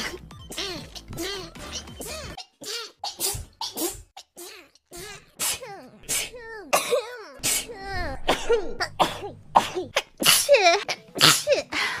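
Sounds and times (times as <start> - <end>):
high-pitched sneezes: 1.7 - 11.6.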